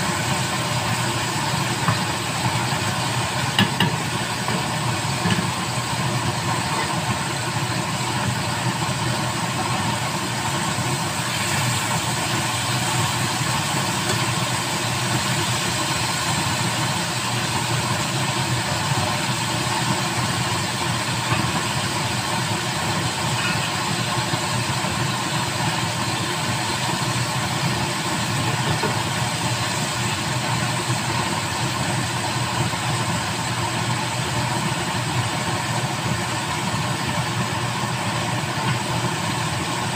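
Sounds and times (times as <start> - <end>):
gas burners roaring: 0.0 - 39.9.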